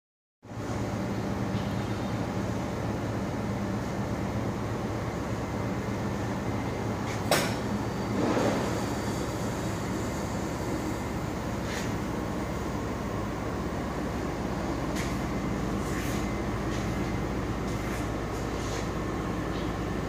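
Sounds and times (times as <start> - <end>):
mechanical hum: 0.4 - 20.0.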